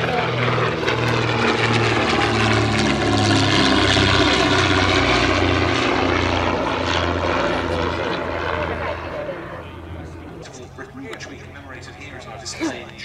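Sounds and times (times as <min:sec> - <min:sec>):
twin propeller aircraft flying past: 0:00.0 - 0:13.0.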